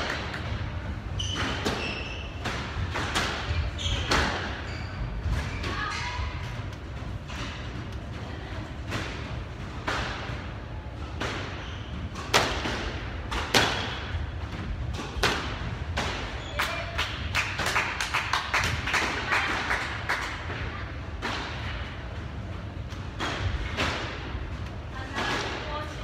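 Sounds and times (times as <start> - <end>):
squash ball hitting rackets and walls: 0.0 - 26.0.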